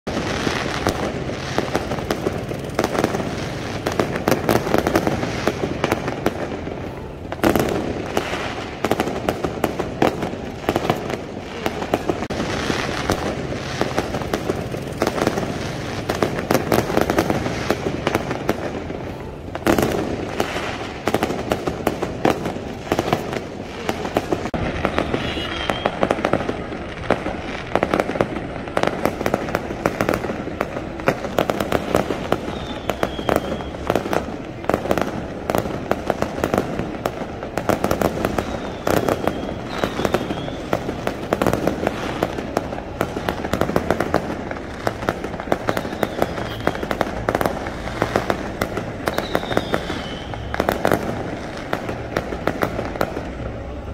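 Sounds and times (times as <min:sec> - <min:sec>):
loud firework bangs: 0:00.0 - 0:53.6
fireworks crackling and popping: 0:00.0 - 0:53.9.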